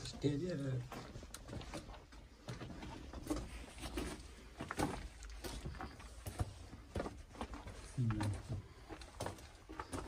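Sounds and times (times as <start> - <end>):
footsteps on rocky ground: 0.0 - 10.0.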